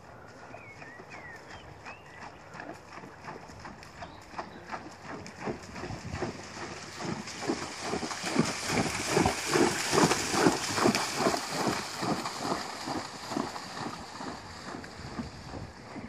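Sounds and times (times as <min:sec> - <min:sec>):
horse hooves splashing in water: 0:00.1 - 0:16.0.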